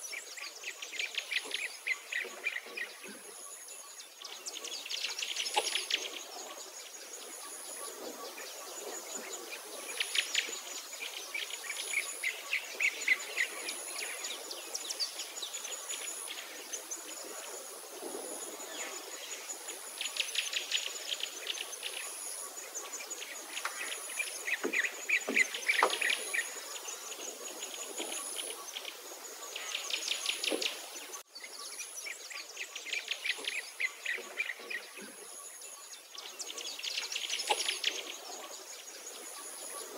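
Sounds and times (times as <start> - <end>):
birds singing trills: 0.0 - 39.9
insect chirr: 0.0 - 39.9.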